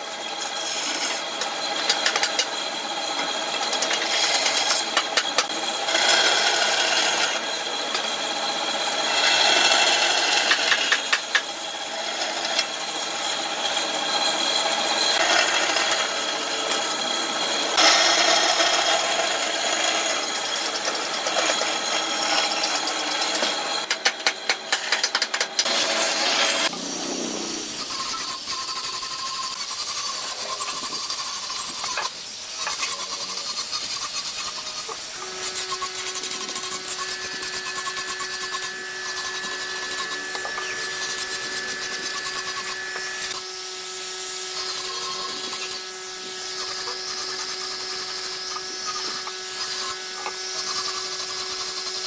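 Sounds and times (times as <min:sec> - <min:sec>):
power tool cutting wood: 0:00.0 - 0:52.0.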